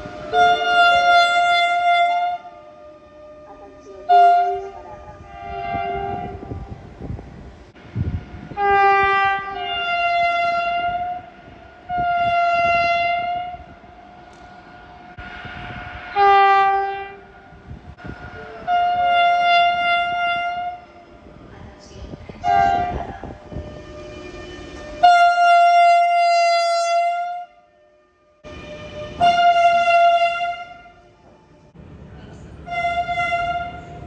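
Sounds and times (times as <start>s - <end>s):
train horn blasts: 0.0s - 7.1s, 8.0s - 13.9s, 15.0s - 21.2s, 22.4s - 31.2s, 32.6s - 34.0s
low train rumble: 0.0s - 34.0s.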